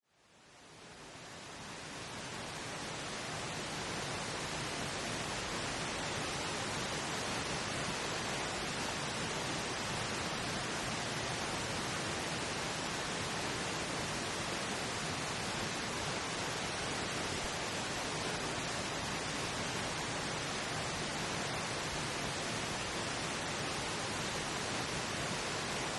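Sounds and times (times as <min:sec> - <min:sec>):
pink noise hiss: 0:00.0 - 0:25.9.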